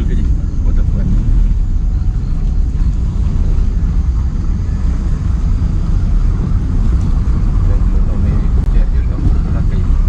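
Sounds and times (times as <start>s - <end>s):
road noise: 0.0s - 10.0s
vehicle engine rumble: 0.0s - 10.0s.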